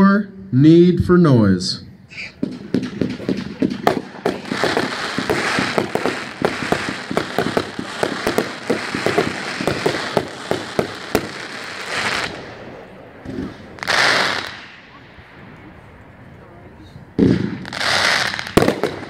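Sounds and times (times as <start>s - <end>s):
continuous hiss: 0.0s - 19.0s
firework shots: 2.1s - 16.2s, 17.1s - 19.0s.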